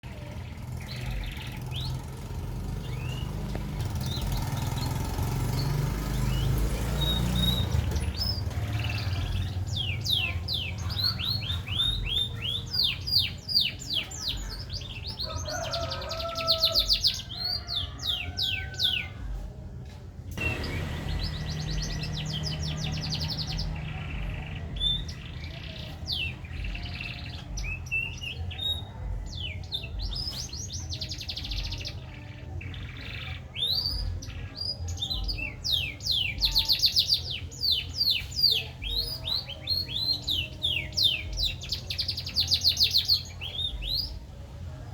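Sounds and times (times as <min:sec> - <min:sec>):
canary singing trills: 0:00.0 - 0:19.4, 0:20.4 - 0:44.6.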